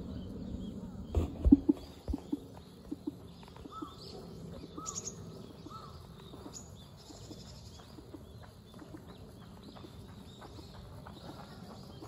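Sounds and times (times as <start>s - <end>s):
low background rumble: 0.0s - 12.0s
small birds calling: 0.0s - 12.0s.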